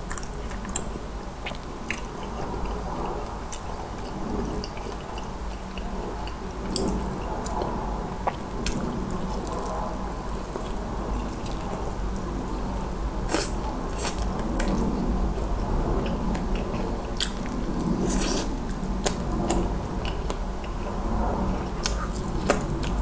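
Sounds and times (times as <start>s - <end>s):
wet chewing: 0.0s - 12.0s, 13.3s - 23.0s.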